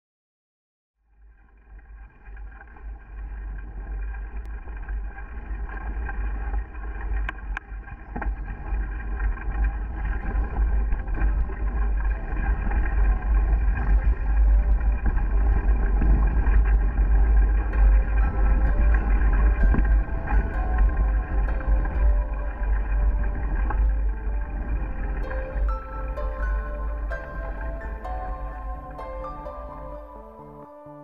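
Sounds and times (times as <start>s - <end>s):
wind buffeting microphone: 4.2s - 30.2s.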